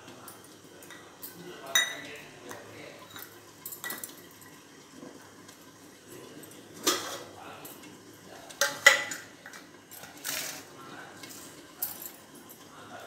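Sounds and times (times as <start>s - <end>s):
metal kitchen vessels clinking: 0.0s - 4.6s, 6.4s - 12.7s.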